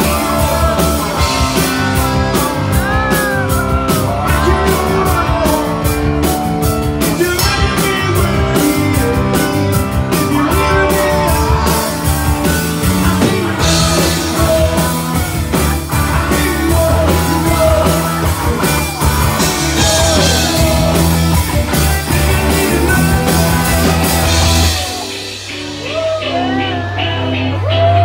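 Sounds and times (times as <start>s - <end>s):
bass guitar: 0.0s - 28.0s
drum kit: 0.0s - 28.0s
electric guitars: 0.0s - 28.0s
person singing: 0.0s - 28.0s.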